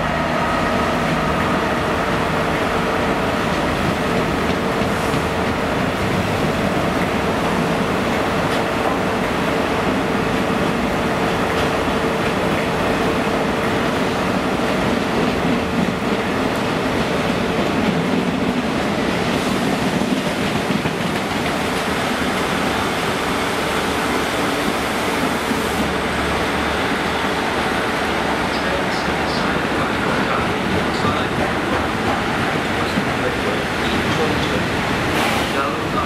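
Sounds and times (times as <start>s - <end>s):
freight train wheels rumbling on rail: 0.0s - 36.0s.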